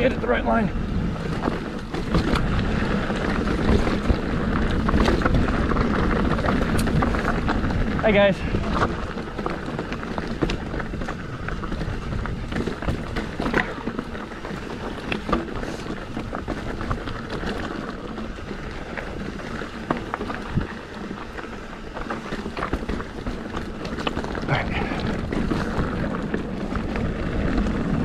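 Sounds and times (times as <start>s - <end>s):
bike rattling: 0.0s - 28.0s
tyres crunching over loose rock: 0.0s - 28.0s
wind noise on microphone: 0.0s - 28.0s.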